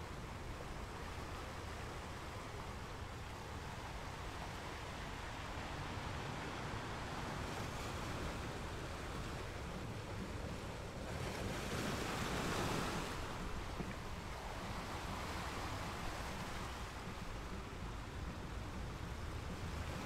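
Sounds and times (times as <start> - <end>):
ocean waves breaking on rocks: 0.0 - 20.0.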